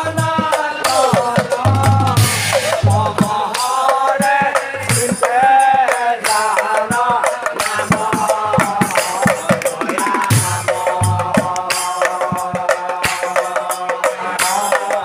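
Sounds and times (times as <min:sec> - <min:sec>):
drum strokes with low thuds: 0:00.0 - 0:15.0
men singing a devotional chant: 0:00.0 - 0:15.0.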